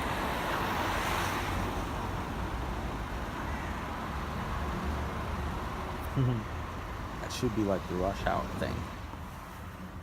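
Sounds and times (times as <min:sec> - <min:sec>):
cars passing with tyre hiss: 0:00.0 - 0:10.0.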